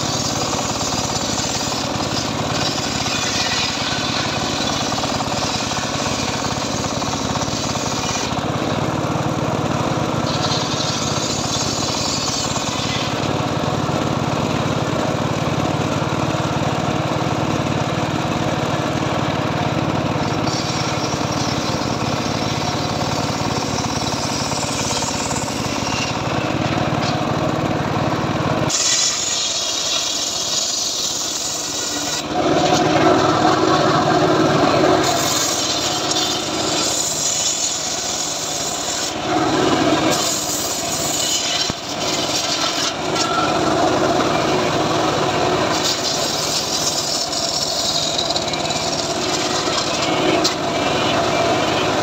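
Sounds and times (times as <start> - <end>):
circular saw cutting wood: 0.0 - 52.0.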